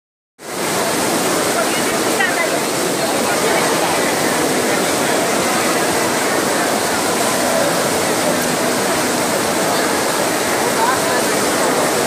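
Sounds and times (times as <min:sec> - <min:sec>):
heavy rain falling: 0:00.4 - 0:12.0.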